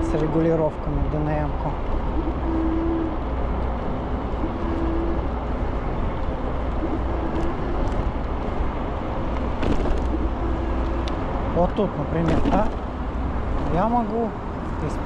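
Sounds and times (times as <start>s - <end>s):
scooter road rumble: 0.0s - 15.0s
wind: 0.0s - 15.0s.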